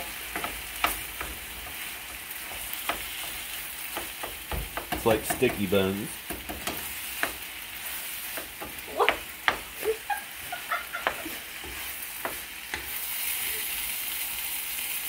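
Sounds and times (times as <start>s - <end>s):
spatula scraping and tapping pan: 0.0s - 13.0s
rice sizzling in a wok: 0.0s - 15.0s.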